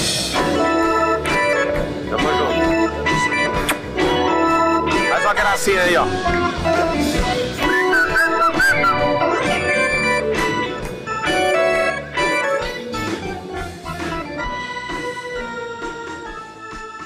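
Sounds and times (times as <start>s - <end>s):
organ-toned keyboard chords: 0.0s - 17.0s.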